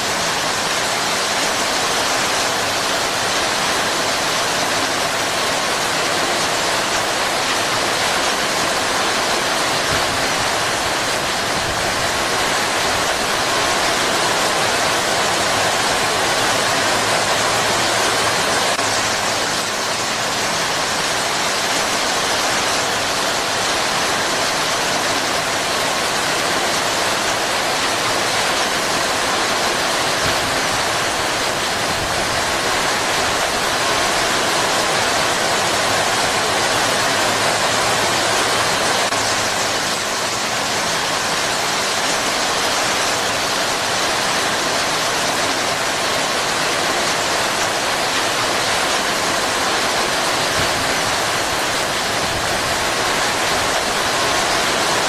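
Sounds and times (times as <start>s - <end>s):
heavy rain on palm fronds: 0.0s - 55.0s.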